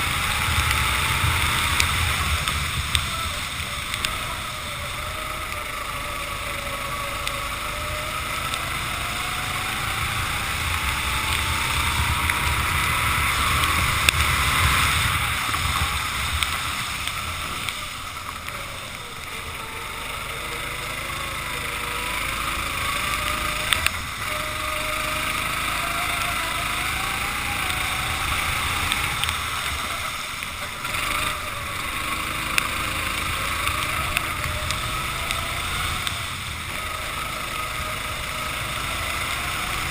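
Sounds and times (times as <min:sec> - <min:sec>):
hiss of wind and spray: 0:00.0 - 0:39.9
kart engine accelerating: 0:00.0 - 0:39.9.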